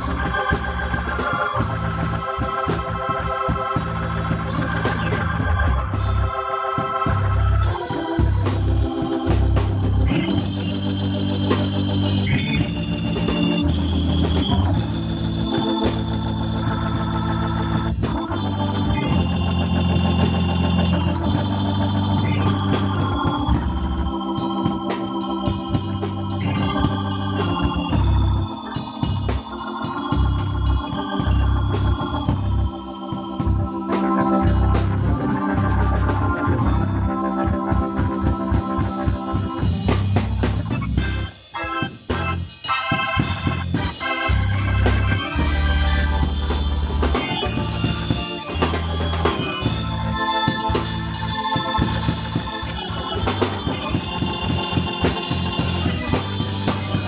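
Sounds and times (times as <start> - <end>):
drum kit: 0.0 - 57.0
organ playing gospel chords: 0.0 - 57.0.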